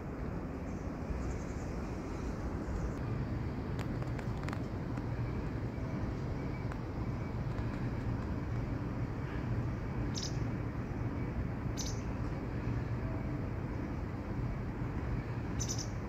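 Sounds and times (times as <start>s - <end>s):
railway station rumble: 0.0s - 16.0s.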